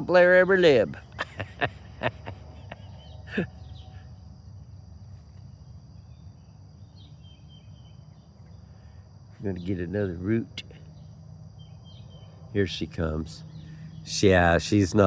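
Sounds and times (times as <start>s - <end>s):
faint bird chirps: 1.0s - 14.5s.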